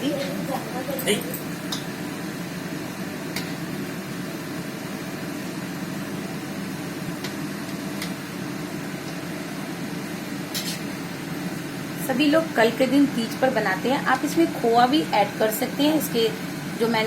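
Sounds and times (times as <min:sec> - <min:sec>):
frying in hot fat sizzling: 0:00.0 - 0:17.0.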